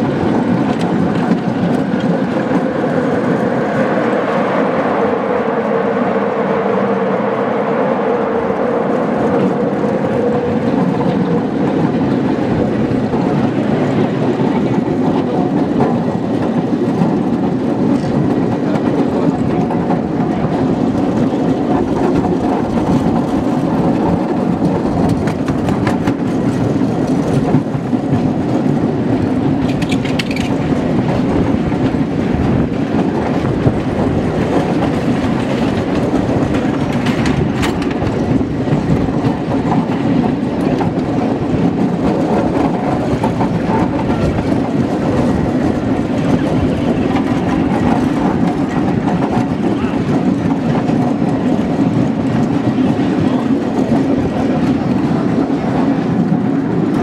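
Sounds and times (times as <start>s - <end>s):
train wheels clickety-clack: 0.0s - 57.0s.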